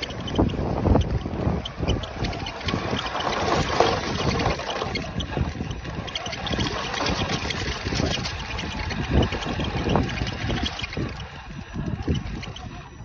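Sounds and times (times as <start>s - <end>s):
toy truck driving over gravel: 0.0s - 13.0s
wheels crunching and knocking: 0.0s - 13.0s
wind buffeting microphone: 0.0s - 13.0s.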